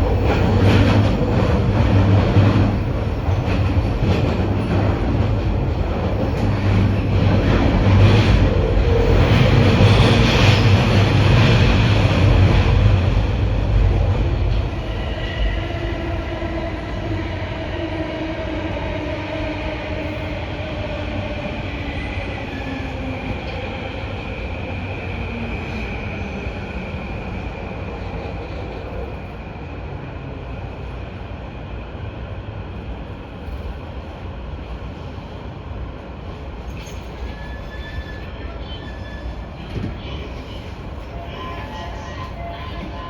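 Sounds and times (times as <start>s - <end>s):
train rumbling with squealing: 0.0s - 29.5s, 36.2s - 43.0s.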